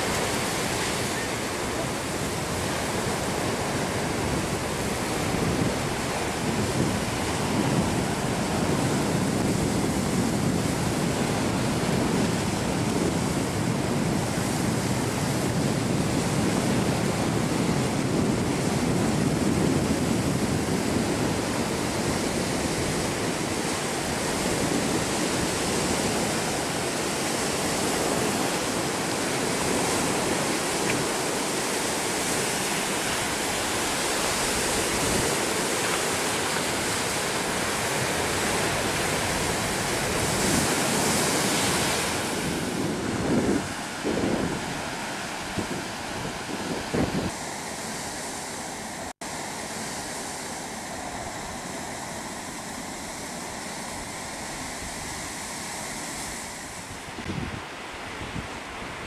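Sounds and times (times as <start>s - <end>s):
surf breaking on rocky shore: 0.0s - 59.0s.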